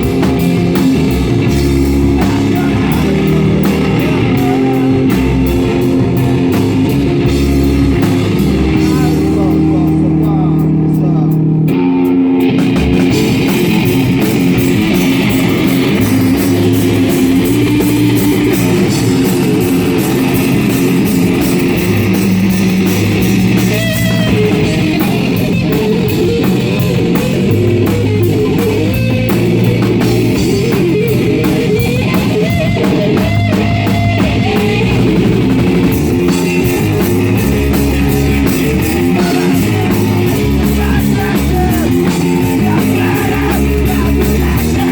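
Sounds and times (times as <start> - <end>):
drum kit: 0.0 - 44.9
electric guitar: 0.0 - 44.9.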